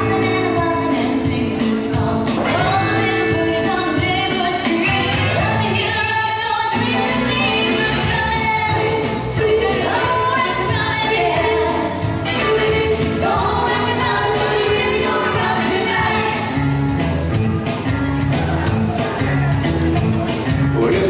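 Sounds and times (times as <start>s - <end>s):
live rock and roll band: 0.0s - 21.0s.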